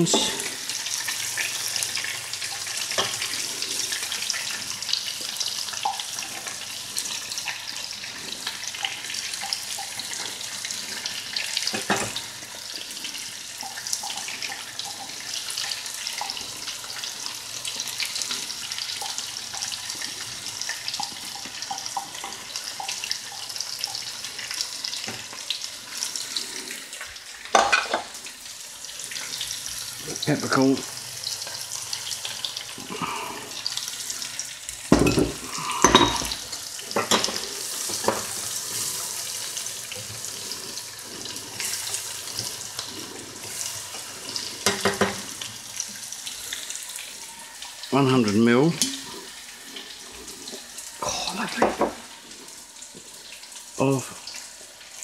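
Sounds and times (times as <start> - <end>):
onions sizzling in a pan: 0.0 - 55.0.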